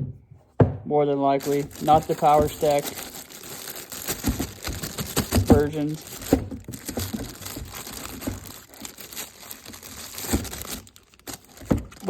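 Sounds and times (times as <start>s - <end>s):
packaging crinkling and rustling: 1.4s - 12.0s.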